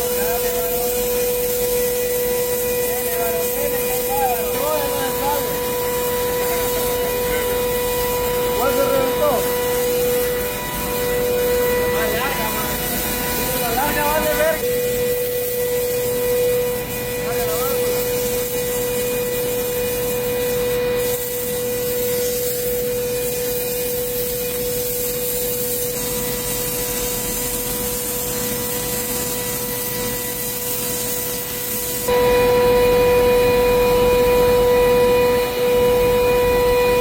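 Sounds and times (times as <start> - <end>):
machinery humming and hissing: 0.0 - 37.0.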